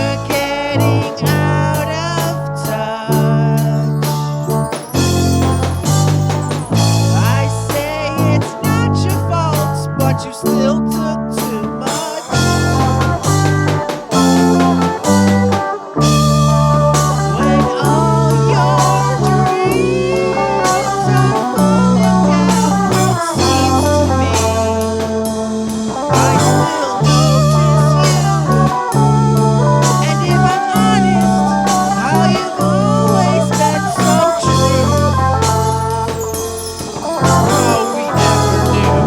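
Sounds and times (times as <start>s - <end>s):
bass and drums: 0.0s - 39.0s
lead guitar with bent notes: 0.0s - 39.0s.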